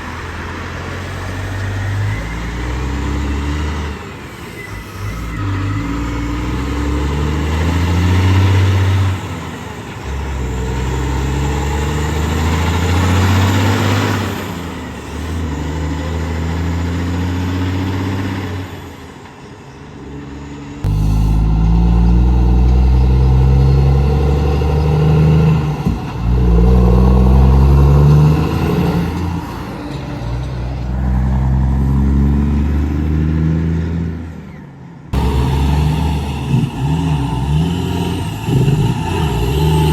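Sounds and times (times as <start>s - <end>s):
diesel trucks accelerating: 0.0s - 39.9s.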